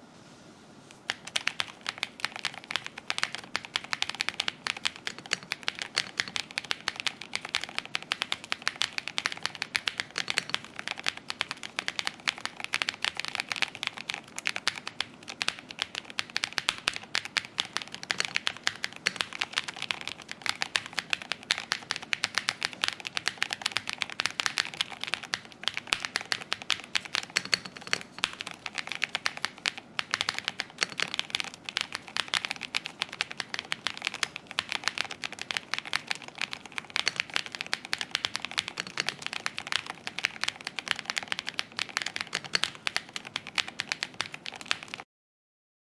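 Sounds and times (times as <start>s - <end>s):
typing on mechanical keyboard: 1.0s - 45.0s.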